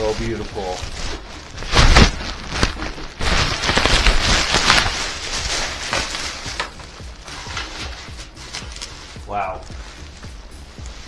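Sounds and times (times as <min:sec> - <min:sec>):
packaging wrap crinkling: 0:00.0 - 0:11.0.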